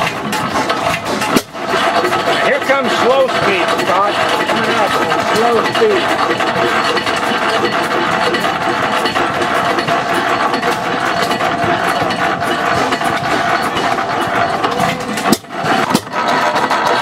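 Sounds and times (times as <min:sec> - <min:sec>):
antique gas engine running slowly: 0:00.0 - 0:17.0.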